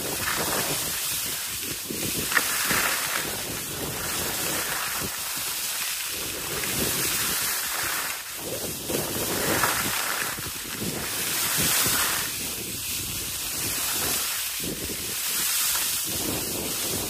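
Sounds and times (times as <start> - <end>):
skis scraping over snow: 0.0 - 17.0
wind on microphone: 0.0 - 17.0.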